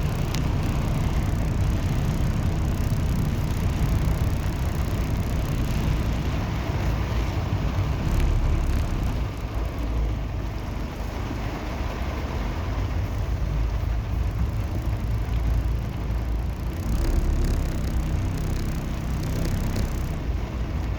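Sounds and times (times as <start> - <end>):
rain hissing: 0.0 - 20.9.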